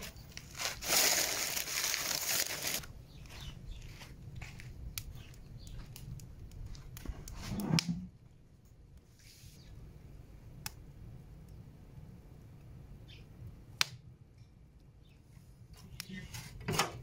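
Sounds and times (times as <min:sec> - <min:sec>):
firewood crackling and popping: 0:00.0 - 0:09.1, 0:09.8 - 0:16.2.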